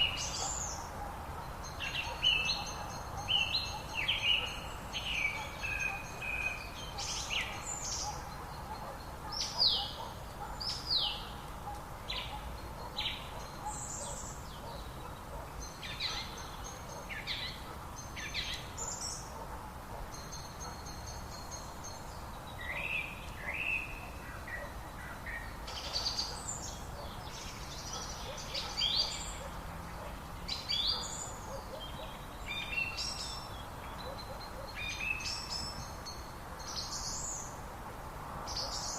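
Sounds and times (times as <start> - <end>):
birds singing and trilling: 0.0 - 37.7, 38.4 - 38.9
steady low background noise: 0.0 - 38.9.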